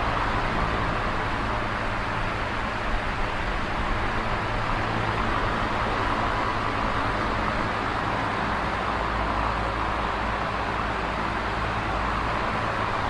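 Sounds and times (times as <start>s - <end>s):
electric fan whirring: 0.0s - 13.0s.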